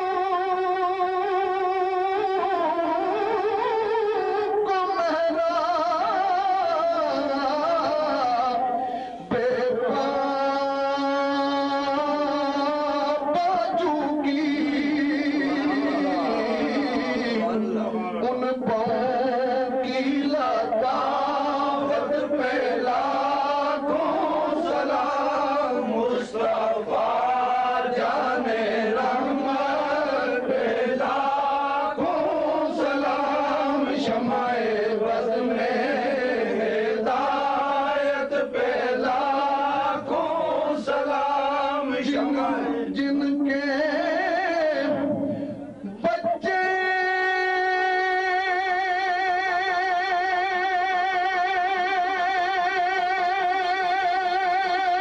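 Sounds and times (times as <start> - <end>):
person singing devotional chant: 0.0 - 55.0.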